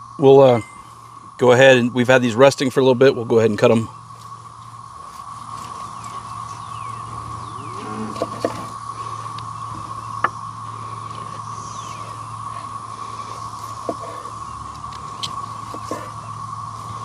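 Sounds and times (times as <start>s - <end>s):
cicada chorus drone: 0.0s - 17.0s.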